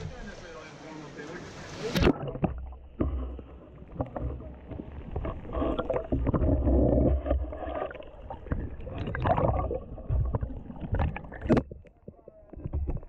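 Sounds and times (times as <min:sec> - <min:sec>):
muffled underwater water churning: 0:01.3 - 0:13.0
bubbling: 0:01.8 - 0:13.0
dull knocks underwater: 0:01.9 - 0:13.0.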